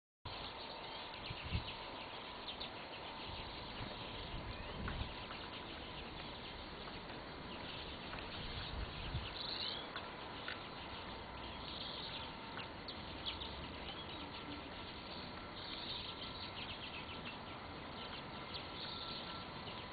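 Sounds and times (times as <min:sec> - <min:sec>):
small birds chirping: 0:00.3 - 0:19.9
steady outdoor hiss: 0:00.3 - 0:19.9.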